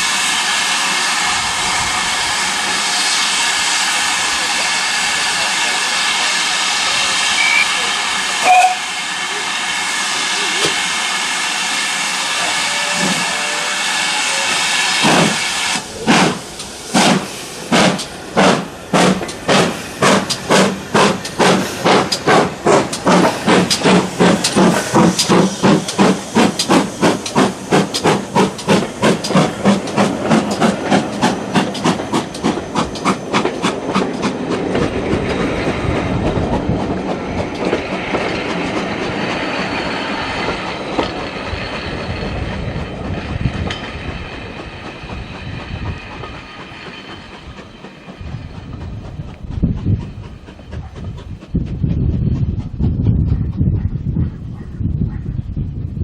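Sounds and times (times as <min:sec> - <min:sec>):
steam hissing: 0:00.0 - 0:52.0
steam locomotive exhaust chuffs: 0:00.0 - 0:54.6
train rolling rumble: 0:00.0 - 0:56.0.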